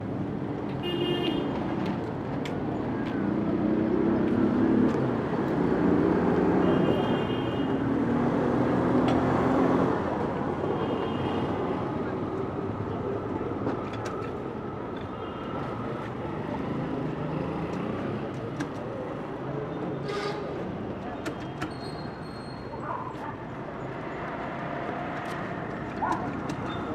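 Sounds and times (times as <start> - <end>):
traffic noise: 0.0 - 26.9.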